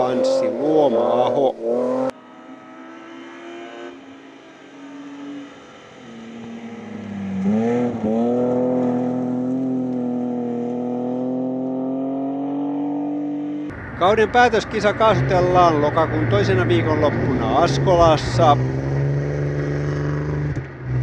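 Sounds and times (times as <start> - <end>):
rally car engine passing: 0.0 - 21.0.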